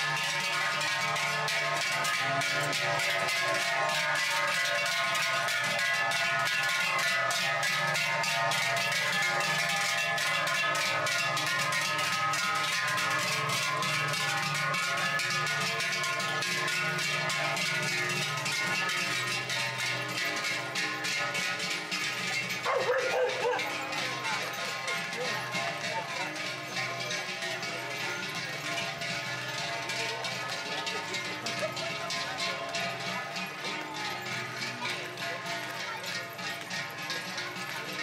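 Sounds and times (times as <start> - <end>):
cowbells clanging: 0.0 - 38.0.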